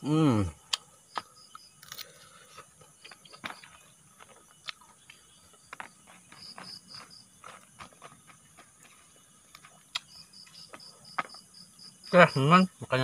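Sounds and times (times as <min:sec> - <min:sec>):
high-pitched insect chirps: 0:00.0 - 0:13.0.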